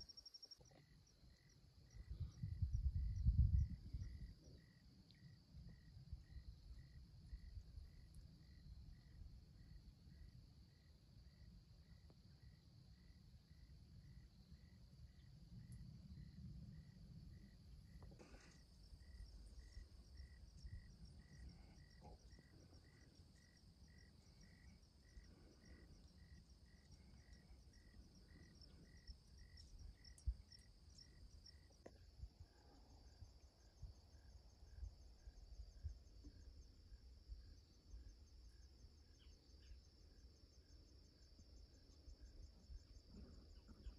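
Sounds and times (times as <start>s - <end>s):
continuous high insect trill: 0.0s - 43.9s
crickets chirping: 0.0s - 43.9s.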